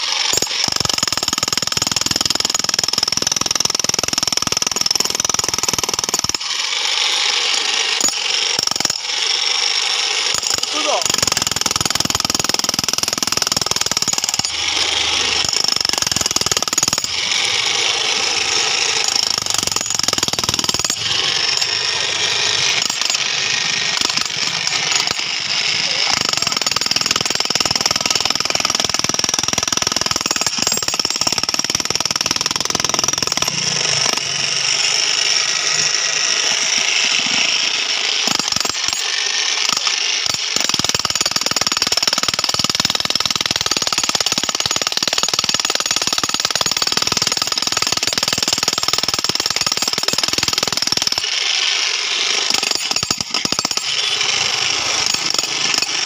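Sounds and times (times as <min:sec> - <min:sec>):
demolition hammer on asphalt: 0:00.0 - 0:56.0.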